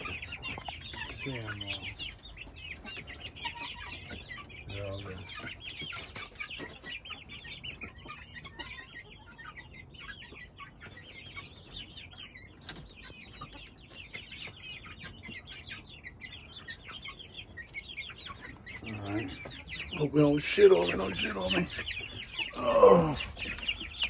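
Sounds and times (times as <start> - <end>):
chickens calling: 0.0 - 24.0.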